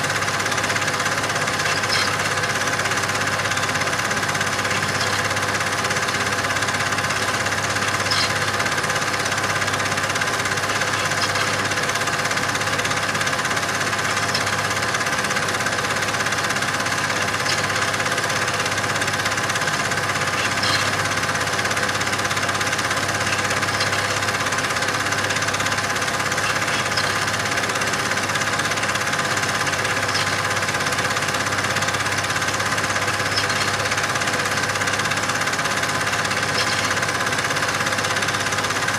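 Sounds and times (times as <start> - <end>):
machine clattering: 0.1 - 38.9.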